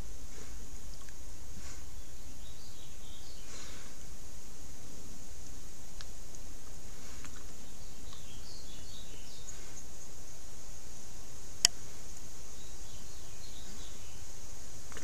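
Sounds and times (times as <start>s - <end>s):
faint bird chirps: 0.0s - 4.2s, 6.9s - 15.0s
steady hiss: 0.0s - 15.0s.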